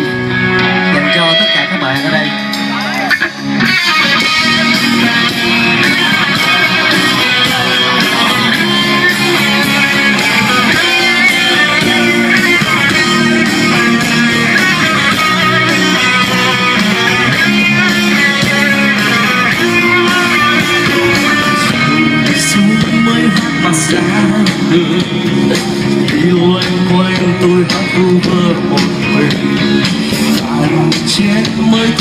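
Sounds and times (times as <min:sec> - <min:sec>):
electric guitars: 0:00.0 - 0:32.0
rock band playing live: 0:00.0 - 0:32.0.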